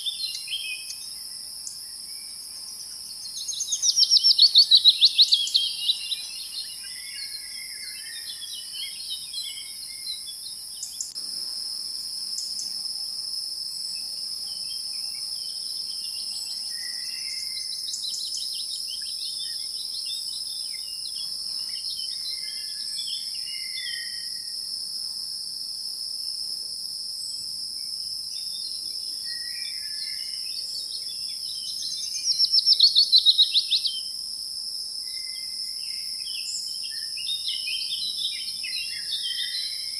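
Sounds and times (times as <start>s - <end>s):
bird chirps: 0.0s - 11.2s, 13.9s - 24.4s, 28.4s - 34.1s, 35.1s - 39.9s
insects droning: 0.0s - 39.9s.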